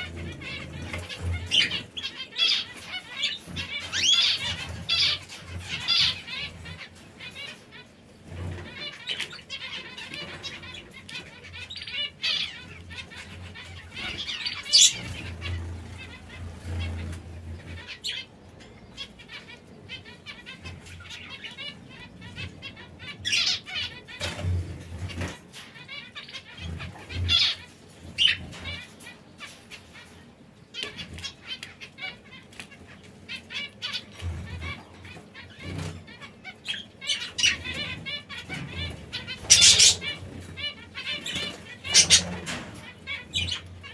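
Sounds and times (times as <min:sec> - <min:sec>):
canaries chirping: 0:00.0 - 0:43.9.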